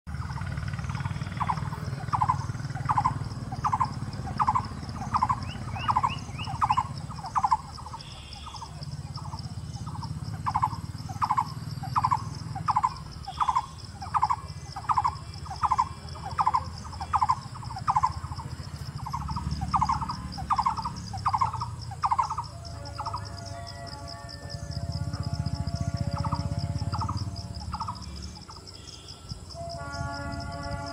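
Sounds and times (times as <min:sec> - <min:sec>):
bird calling rolling note: 0:00.1 - 0:30.9
high insect buzz: 0:00.1 - 0:30.9.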